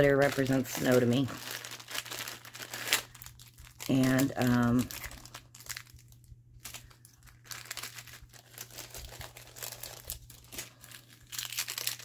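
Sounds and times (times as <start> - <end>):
crinkles and rustles of craft supplies: 0.0 - 12.0
low steady hum: 0.0 - 12.0.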